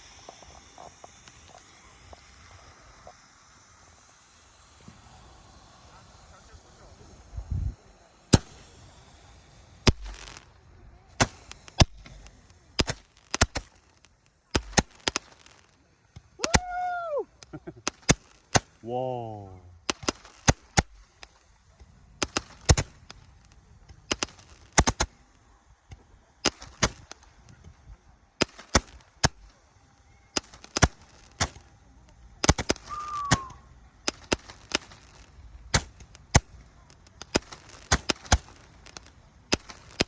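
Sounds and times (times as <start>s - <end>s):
fireworks bangs: 0.0s - 40.0s.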